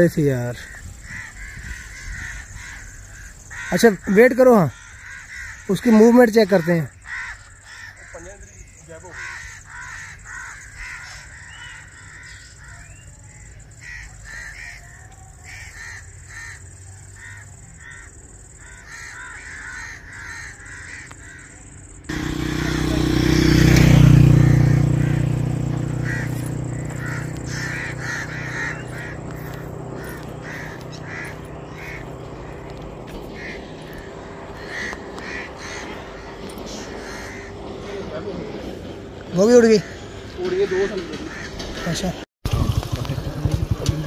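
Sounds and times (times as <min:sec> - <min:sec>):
birds calling: 0:00.0 - 0:44.0.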